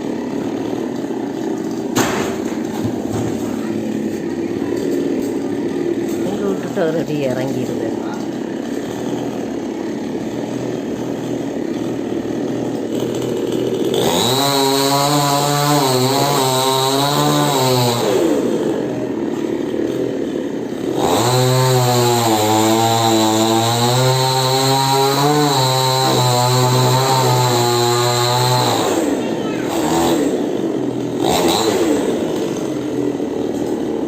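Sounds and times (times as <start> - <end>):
chainsaw revving and cutting: 0.0 - 34.0.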